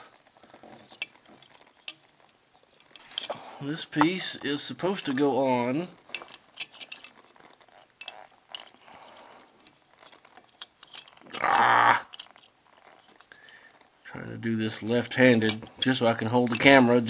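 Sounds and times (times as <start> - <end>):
plastic parts clicking and scraping: 0.0 - 17.0.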